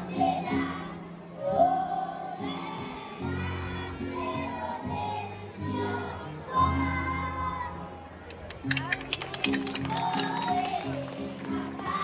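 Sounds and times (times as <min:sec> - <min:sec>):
children's choir singing: 0:00.0 - 0:08.2, 0:09.5 - 0:12.0.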